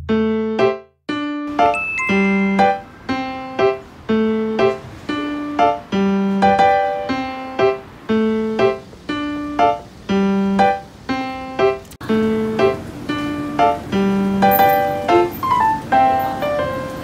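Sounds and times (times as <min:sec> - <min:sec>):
bouncy keyboard music: 0:00.0 - 0:17.0.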